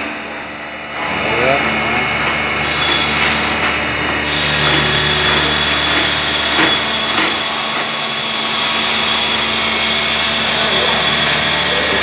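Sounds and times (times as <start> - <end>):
milling machine spindle whine: 0.6 - 12.0
end mill cutting metal: 0.9 - 12.0.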